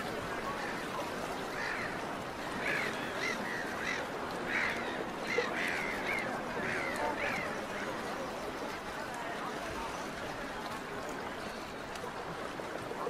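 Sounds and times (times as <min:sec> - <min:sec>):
background murmur: 0:00.0 - 0:13.0.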